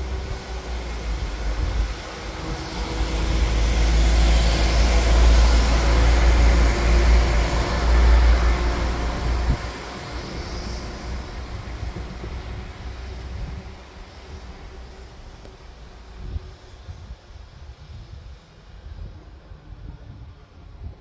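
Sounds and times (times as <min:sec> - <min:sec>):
train passing rumble: 0:00.0 - 0:21.0.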